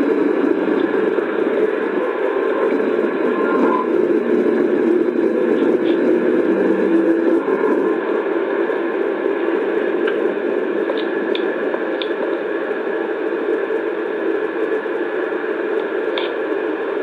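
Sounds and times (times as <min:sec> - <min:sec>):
steady static-like noise: 0:00.0 - 0:17.0.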